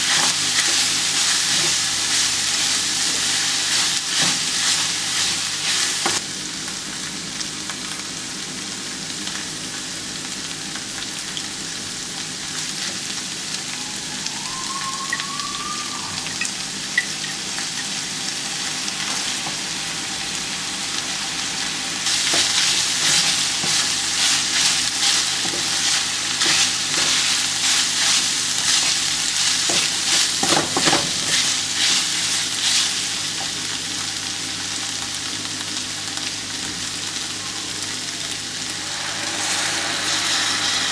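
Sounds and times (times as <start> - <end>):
food sizzling in oiled pan: 0.0 - 40.9.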